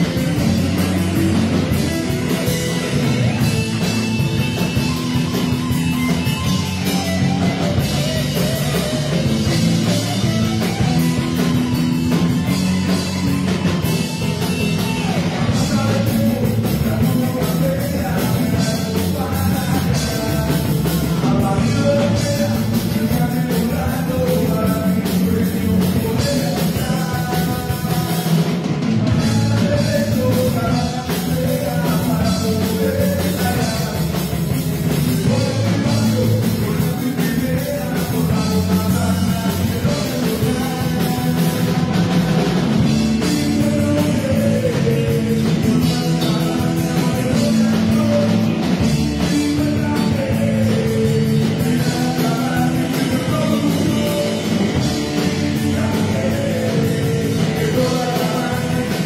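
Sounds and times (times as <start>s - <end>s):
drum kit: 0.0s - 59.0s
electric bass: 0.0s - 59.0s
electric guitars: 0.0s - 59.0s
man singing: 0.0s - 59.0s.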